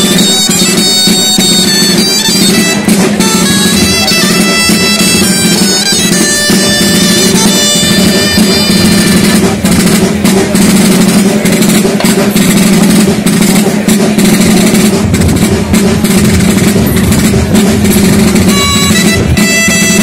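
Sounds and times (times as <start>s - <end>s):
drum beat: 0.0s - 20.0s
shawm playing folk melody: 0.0s - 20.0s.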